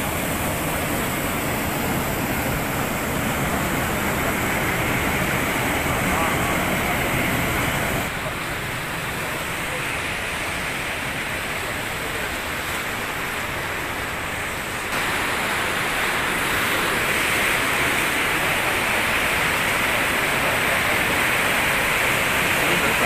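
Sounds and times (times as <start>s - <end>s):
floodwater churning over rocks: 0.0s - 23.0s
steady noisy hiss: 0.0s - 23.0s.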